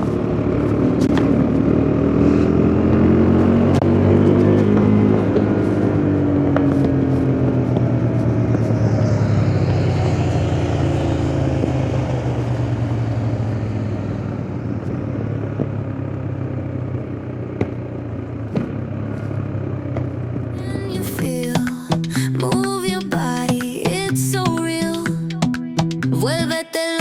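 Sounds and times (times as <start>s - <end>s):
motorcycle engine running: 0.0s - 26.6s.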